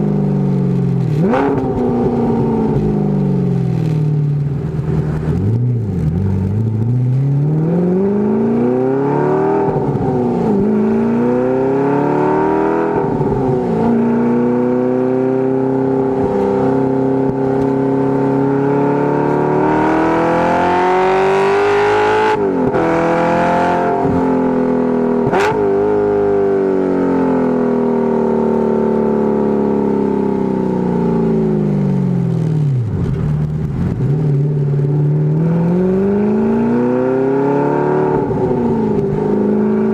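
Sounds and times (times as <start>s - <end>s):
sports car engine revving: 0.8s - 39.9s.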